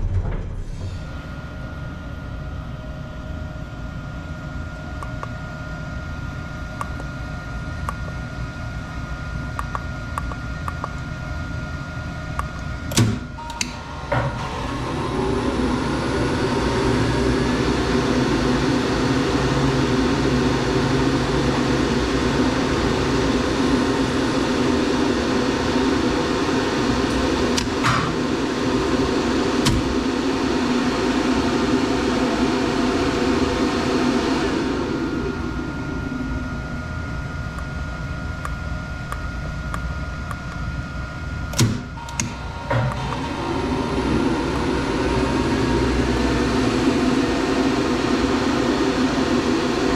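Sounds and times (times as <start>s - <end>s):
elevator machinery humming: 0.0s - 49.9s.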